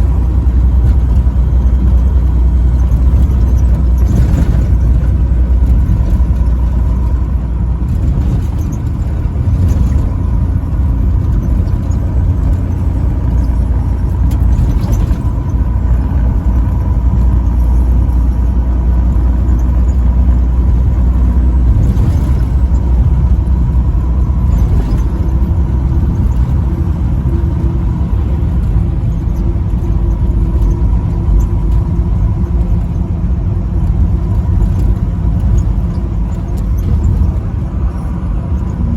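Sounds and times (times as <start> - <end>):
highway traffic rumble: 0.0 - 38.9.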